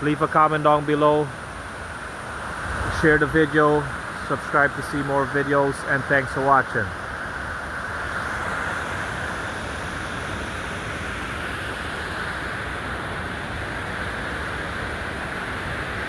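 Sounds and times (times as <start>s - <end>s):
large waterfall rushing: 0.0s - 16.0s.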